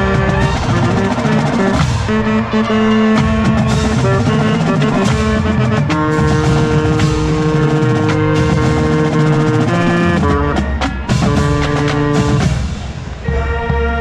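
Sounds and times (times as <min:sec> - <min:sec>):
drum and cymbal hits: 0:00.0 - 0:14.0
marching band playing chords: 0:00.0 - 0:14.0.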